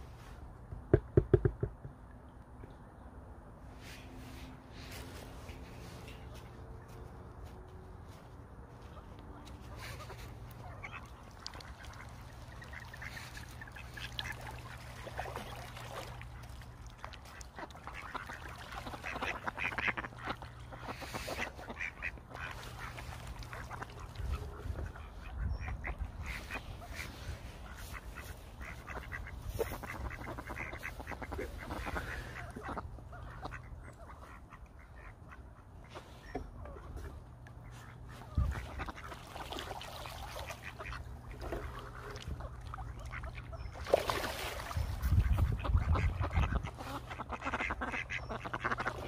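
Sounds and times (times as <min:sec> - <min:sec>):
ducks quacking: 0:04.3 - 0:49.0.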